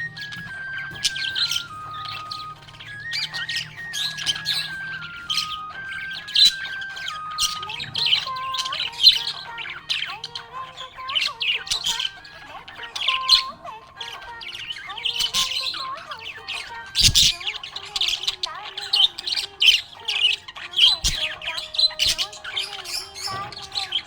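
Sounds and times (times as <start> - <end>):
background music melody: 0.0 - 24.0
budgerigars chirping and squawking: 0.0 - 24.0.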